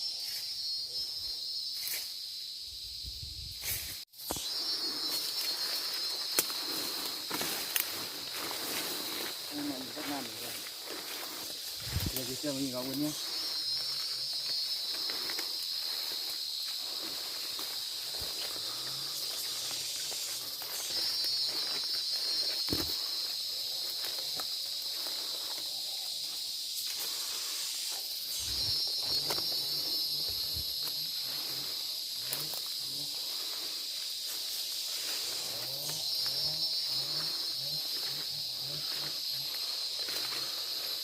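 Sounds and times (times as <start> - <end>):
forest insects shrill drone: 0.0 - 41.0.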